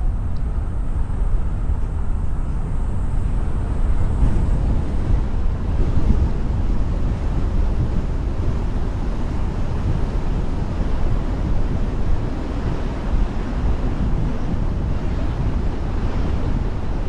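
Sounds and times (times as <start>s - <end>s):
car wind and road noise: 0.0s - 17.0s.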